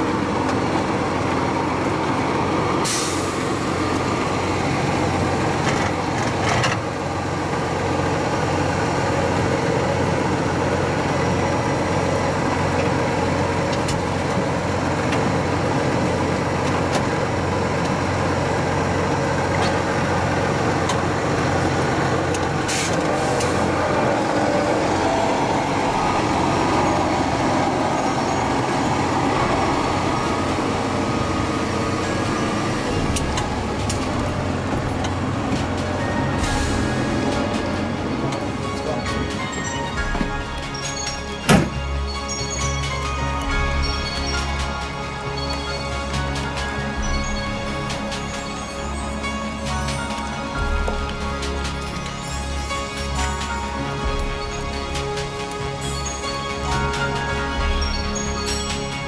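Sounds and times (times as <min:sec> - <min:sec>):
wood chipper and tractor drone: 0:00.0 - 0:59.0.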